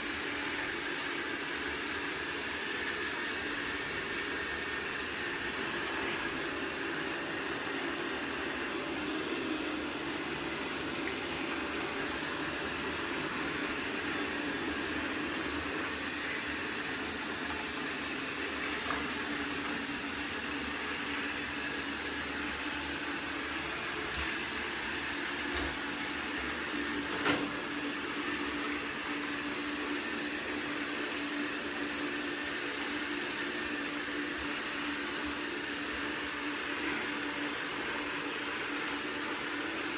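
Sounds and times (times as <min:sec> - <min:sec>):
robot vacuum whirring: 0:00.2 - 0:39.9.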